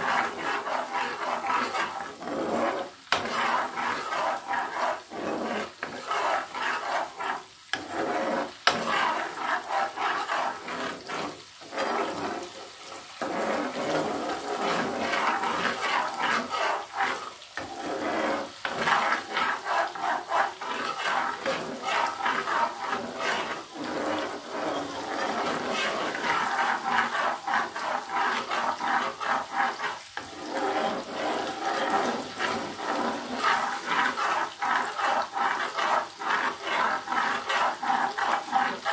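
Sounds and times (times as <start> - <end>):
butter sizzling in a pan: 0.0 - 38.9
spoon stirring: 0.0 - 38.9.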